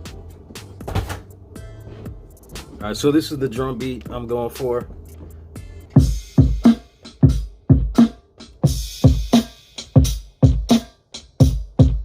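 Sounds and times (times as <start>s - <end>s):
hip-hop drum beat: 0.0s - 12.0s.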